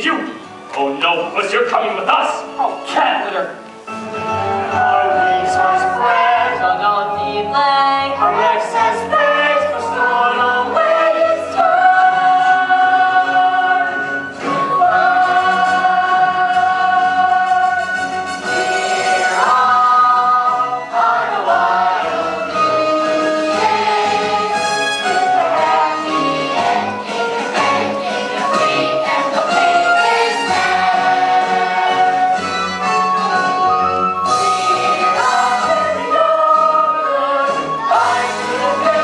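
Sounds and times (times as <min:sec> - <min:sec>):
instrumental accompaniment: 0:00.0 - 0:39.0
voices singing together: 0:04.7 - 0:39.0.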